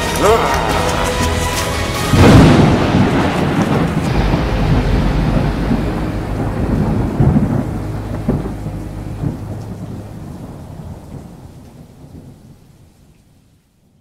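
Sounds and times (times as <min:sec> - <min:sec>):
thunder rolling: 0:00.0 - 0:13.0.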